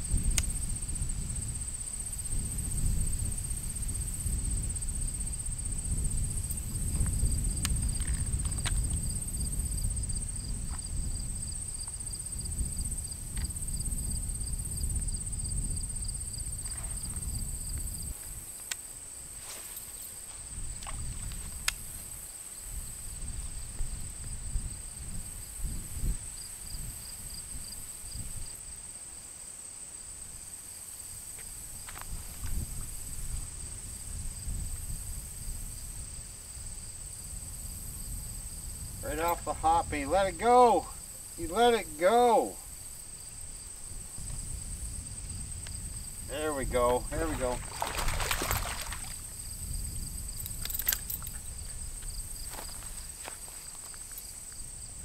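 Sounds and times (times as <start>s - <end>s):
insects buzzing: 0.0s - 55.0s.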